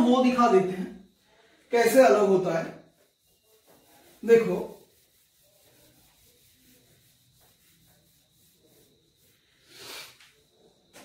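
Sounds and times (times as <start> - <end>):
wiping a whiteboard: 0.0 - 11.0.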